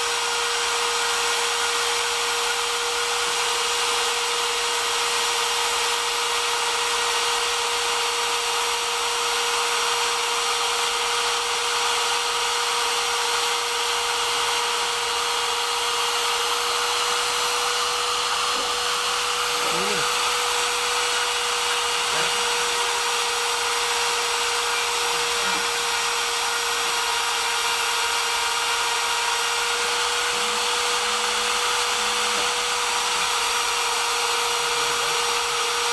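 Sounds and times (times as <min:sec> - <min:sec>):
router spindle whining: 0:00.0 - 0:35.9.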